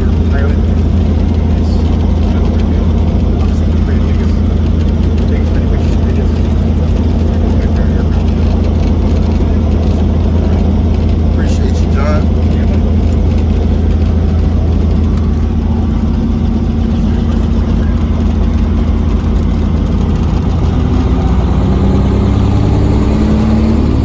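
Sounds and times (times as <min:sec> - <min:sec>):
helicopter engine and rotor: 0:00.0 - 0:24.0.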